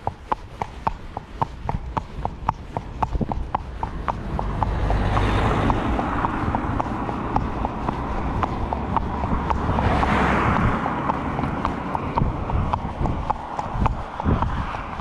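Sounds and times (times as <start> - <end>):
hooves clip-clopping on asphalt: 0.0 - 15.0
car passing fast: 1.5 - 15.0.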